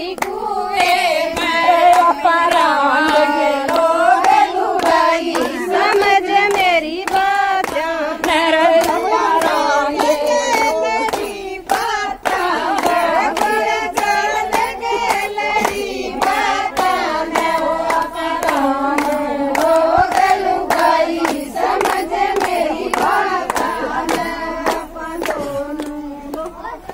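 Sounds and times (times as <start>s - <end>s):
rhythmic hand-clapping: 0.0s - 26.9s
women singing folk song: 0.0s - 26.9s.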